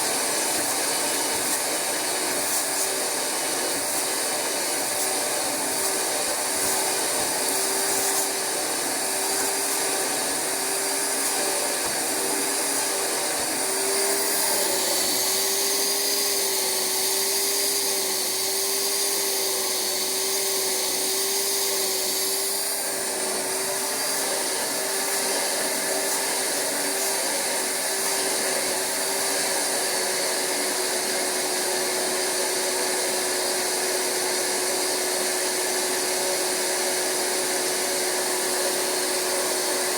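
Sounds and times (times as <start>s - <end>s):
carpet cleaner vacuum motor humming: 0.0s - 39.9s.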